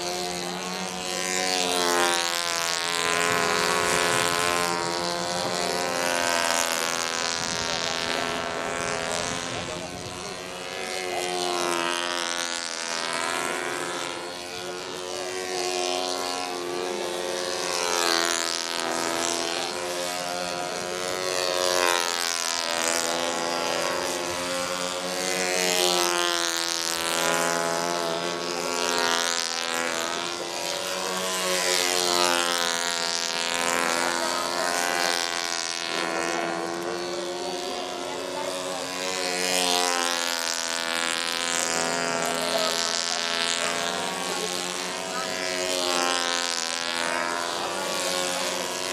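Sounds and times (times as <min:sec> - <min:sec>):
model aircraft engines buzzing: 0:00.0 - 0:48.9.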